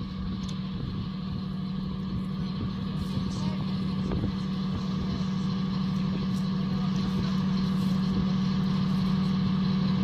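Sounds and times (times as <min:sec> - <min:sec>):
tracked vehicle engine humming: 0:00.0 - 0:10.0.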